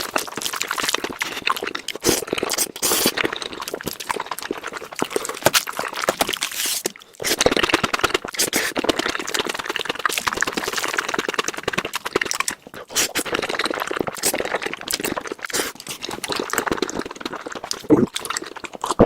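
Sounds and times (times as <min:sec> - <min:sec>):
slurping and chewing noodles: 0:00.0 - 0:19.0.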